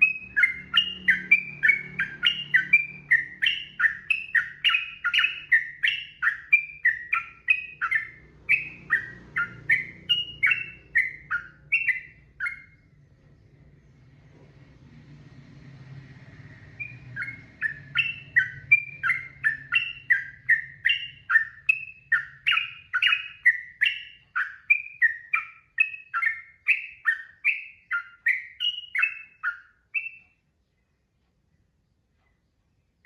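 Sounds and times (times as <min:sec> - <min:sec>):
bird singing descending notes: 0:00.0 - 0:33.0
faint low hum: 0:00.0 - 0:33.0.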